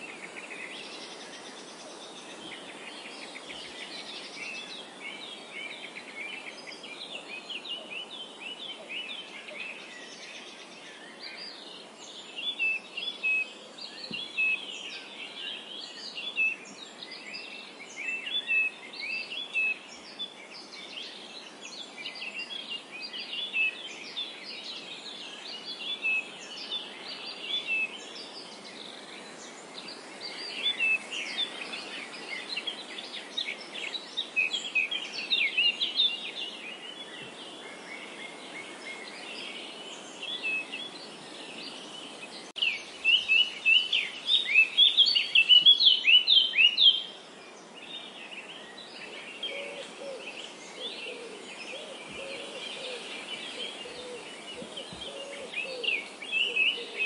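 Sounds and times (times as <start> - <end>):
small birds chirping: 0.0 - 57.0
wind through grass: 0.0 - 57.0.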